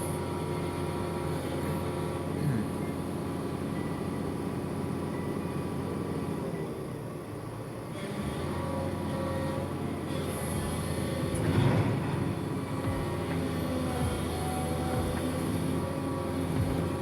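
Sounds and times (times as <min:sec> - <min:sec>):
heavy machine engine running: 0:00.0 - 0:17.0.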